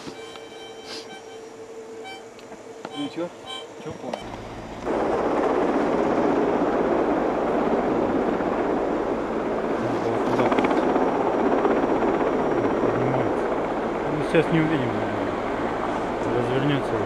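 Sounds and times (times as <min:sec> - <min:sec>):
helicopter engine and rotor drone: 0:00.1 - 0:17.0.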